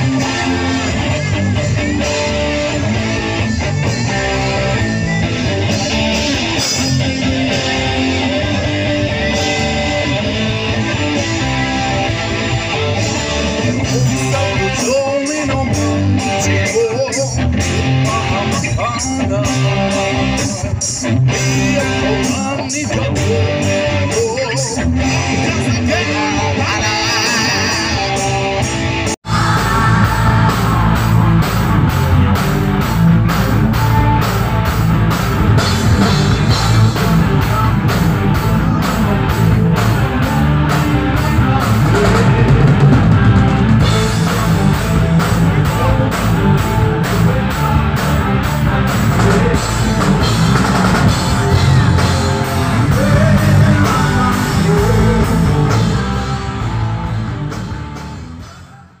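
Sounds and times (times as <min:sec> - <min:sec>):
drum kit beat: 0:00.0 - 0:58.8
electric guitars: 0:00.0 - 0:59.0.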